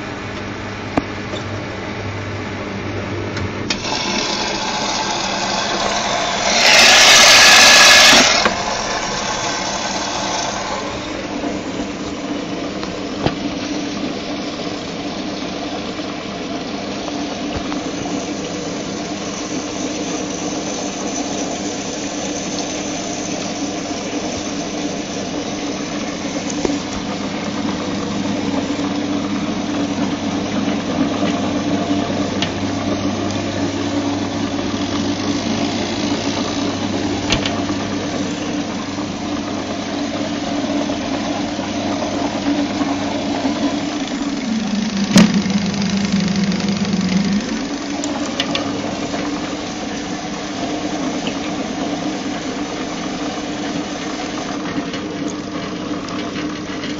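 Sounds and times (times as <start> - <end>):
washing machine motor humming: 0.0 - 56.9
water churning: 3.8 - 56.8.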